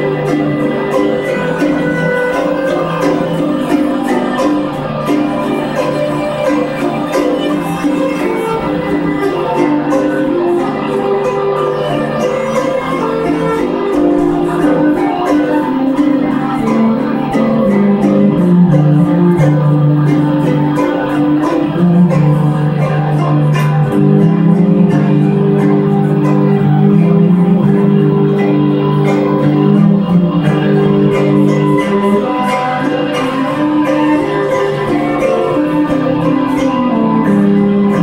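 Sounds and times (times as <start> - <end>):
guitar holding long notes: 0.0 - 38.0
steady percussion beat: 0.0 - 38.0.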